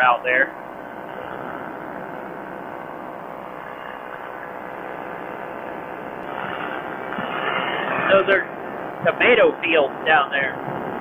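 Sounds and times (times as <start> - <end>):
light aircraft engine and propeller: 0.0 - 11.0.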